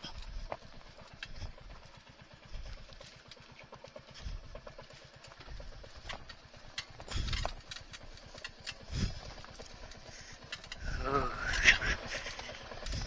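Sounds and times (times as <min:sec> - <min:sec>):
low engine rumbling: 0:00.0 - 0:13.0
motorcycle rolling over stones: 0:00.0 - 0:13.0.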